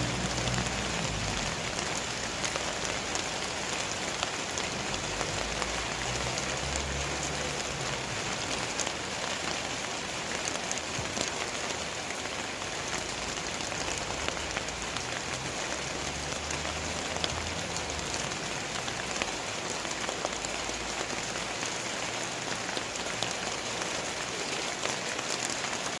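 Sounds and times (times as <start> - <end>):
heavy rain: 0.0 - 26.0
raindrops pattering: 0.0 - 26.0.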